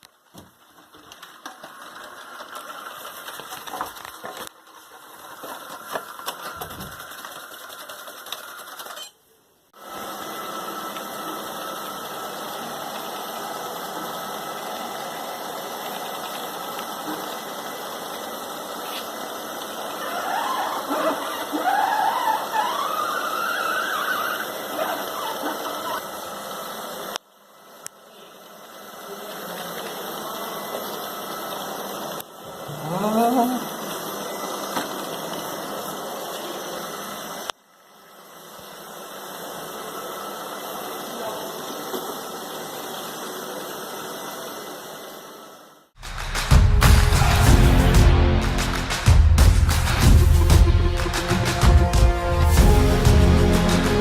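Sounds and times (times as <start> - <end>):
robot vacuum cleaner running: 0.6 - 9.0, 9.8 - 45.9, 49.7 - 54.0.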